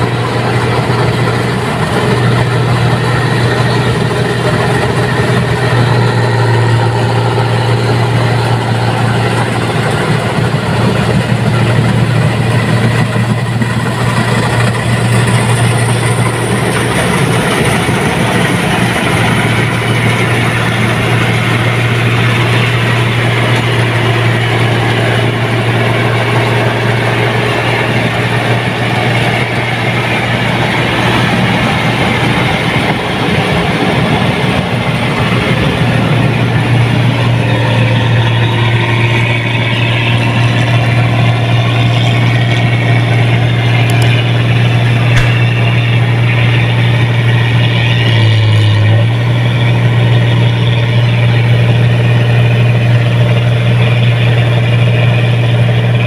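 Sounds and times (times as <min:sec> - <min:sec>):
combine harvester engine humming: 0:00.0 - 0:56.0.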